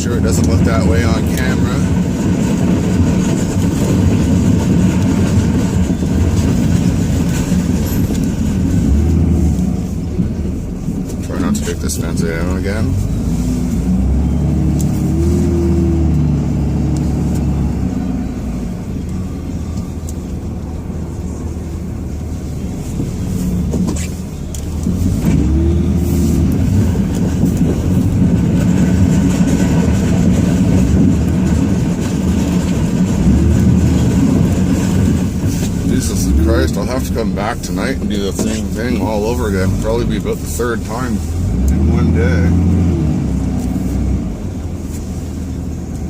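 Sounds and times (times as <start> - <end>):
diesel truck engine revving: 0.0 - 46.0.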